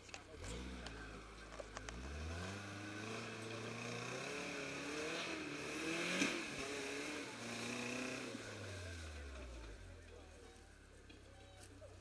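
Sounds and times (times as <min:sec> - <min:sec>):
off-road engine revving: 0:00.0 - 0:11.2.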